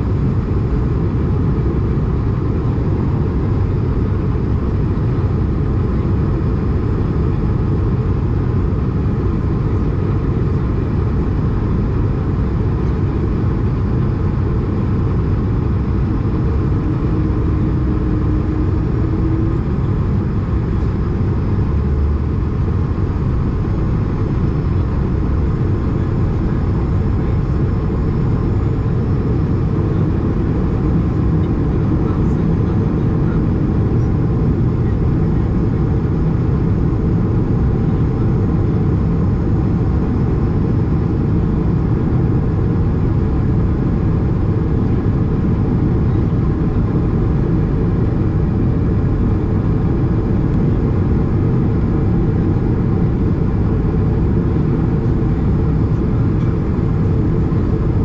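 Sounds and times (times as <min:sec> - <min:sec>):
airplane cabin rumble: 0:00.0 - 0:58.0
faint hum: 0:00.0 - 0:58.0.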